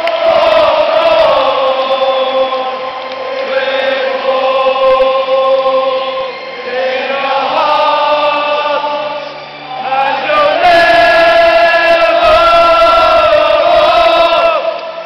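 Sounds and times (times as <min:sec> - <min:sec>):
crowd of supporters singing: 0:00.0 - 0:15.0.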